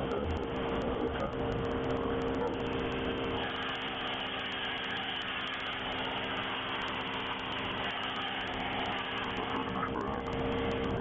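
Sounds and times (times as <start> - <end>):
foam machine hissing: 0.0 - 11.0.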